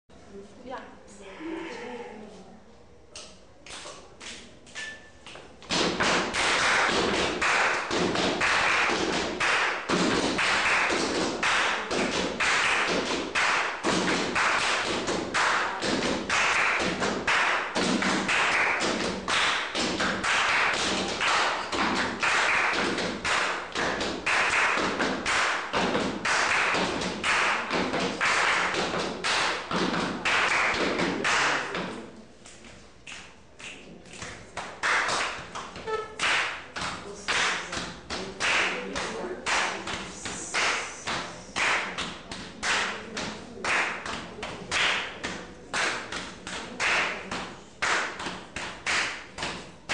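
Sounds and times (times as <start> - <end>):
body percussion rhythm: 3.2 - 49.9.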